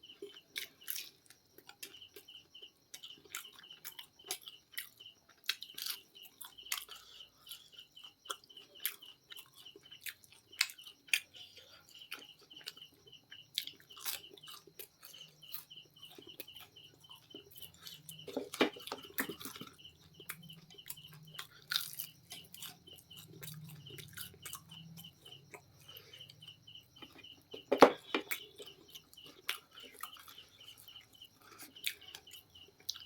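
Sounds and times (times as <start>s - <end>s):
crunchy chewing of fried chicken: 0.0s - 33.0s.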